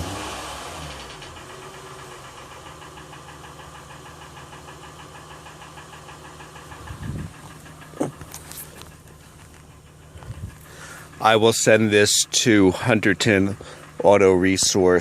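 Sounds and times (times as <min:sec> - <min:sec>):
car engine idling: 0:00.0 - 0:15.0
fast even engine ticking: 0:00.0 - 0:15.0.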